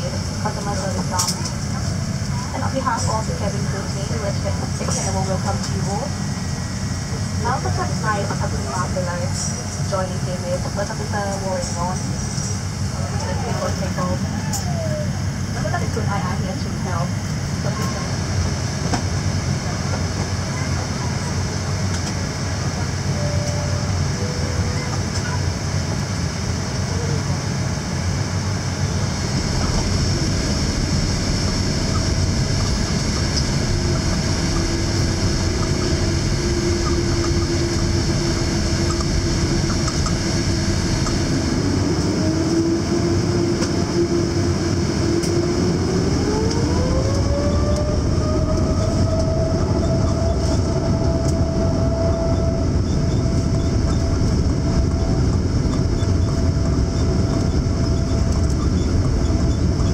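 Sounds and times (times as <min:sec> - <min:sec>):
jet cabin rumble and hiss: 0:00.0 - 0:59.9
jet engine whine rising: 0:00.0 - 0:59.9.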